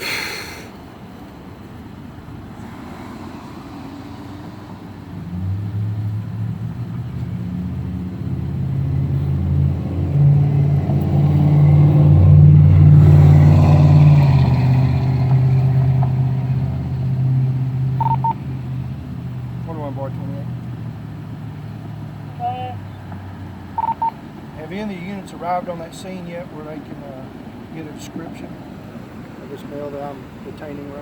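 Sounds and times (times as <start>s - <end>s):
vehicle engine running: 3.4s - 31.0s.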